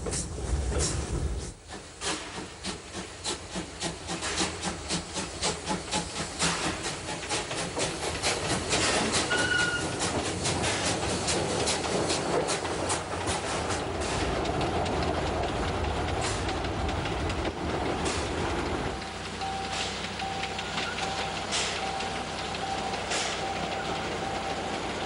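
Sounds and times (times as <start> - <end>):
steady steam hiss: 0.0 - 25.0
steam locomotive exhaust chuffs: 0.0 - 25.0.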